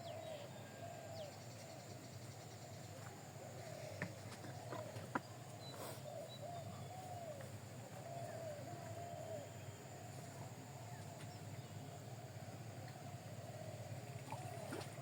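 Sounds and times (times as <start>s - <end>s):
birds calling softly: 0.0s - 15.0s
low steady hum: 0.0s - 15.0s.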